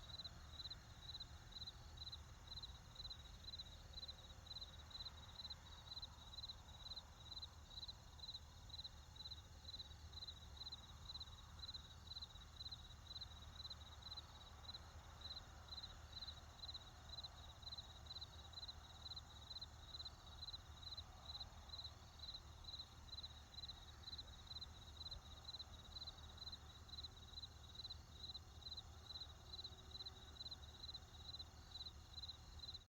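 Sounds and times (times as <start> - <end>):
crickets chirping: 0.0 - 32.8.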